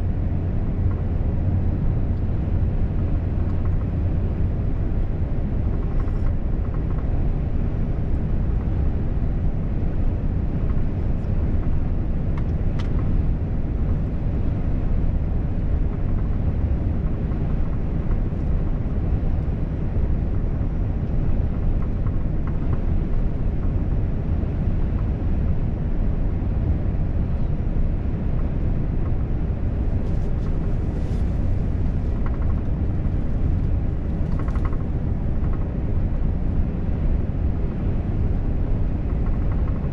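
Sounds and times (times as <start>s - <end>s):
truck engine and tyres rumbling: 0.0s - 39.9s.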